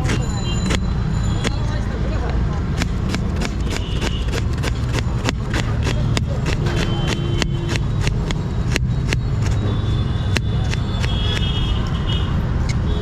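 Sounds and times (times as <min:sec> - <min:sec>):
sharp clicks and taps: 0:00.0 - 0:12.0
street traffic rumble: 0:00.0 - 0:13.0.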